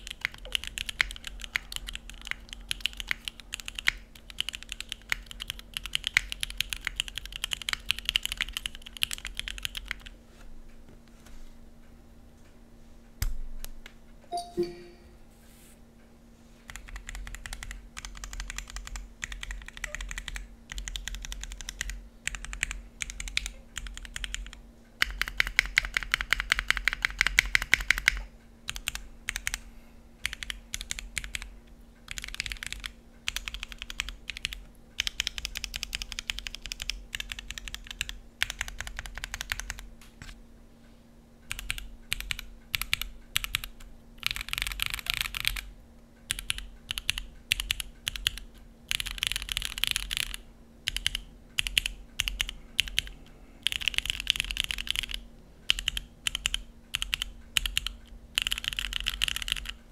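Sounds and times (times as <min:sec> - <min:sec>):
clacky mechanical keyboard typing: 0:00.0 - 0:10.2, 0:16.7 - 0:29.6, 0:30.2 - 0:39.9, 0:41.5 - 0:45.7, 0:46.3 - 0:59.9.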